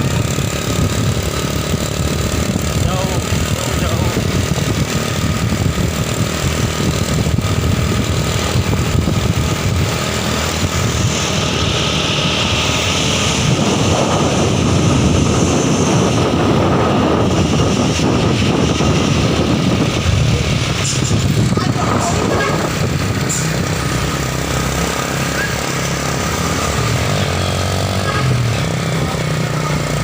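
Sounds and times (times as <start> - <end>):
heavy truck engine running: 0.0 - 30.0.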